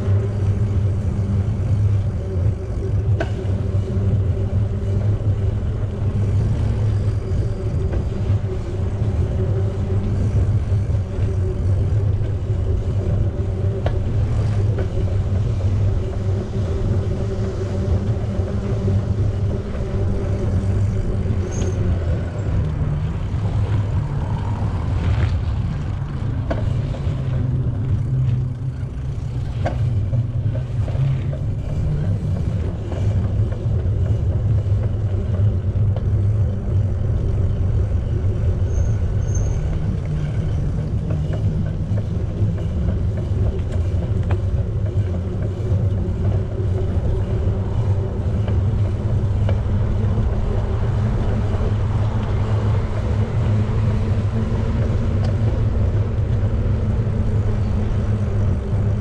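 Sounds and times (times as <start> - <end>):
bicycle tyre noise: 0.0 - 59.0
wind on microphone: 0.0 - 59.0.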